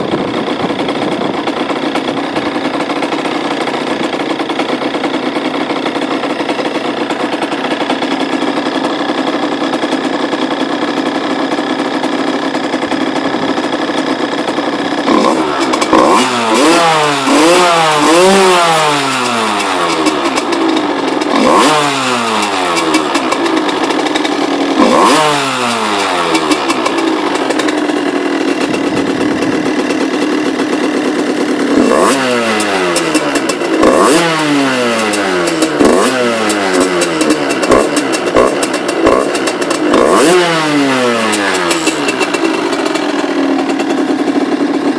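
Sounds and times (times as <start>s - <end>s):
two-stroke engine idling and revving: 0.0s - 44.9s.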